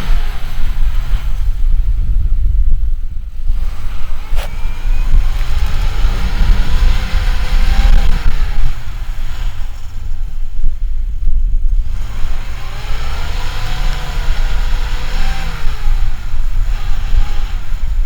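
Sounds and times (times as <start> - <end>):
off-road vehicle engine revving: 0.0 - 18.0
wind buffeting on microphone: 0.0 - 18.0.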